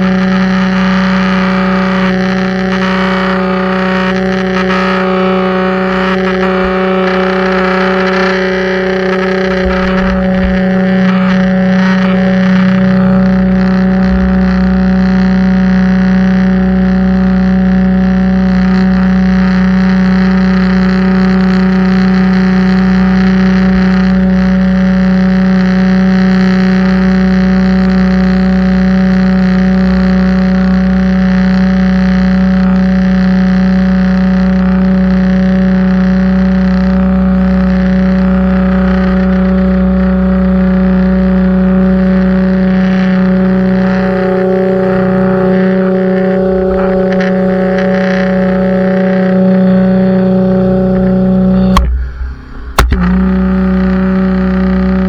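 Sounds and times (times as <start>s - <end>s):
pressure washer running: 0.0s - 55.0s.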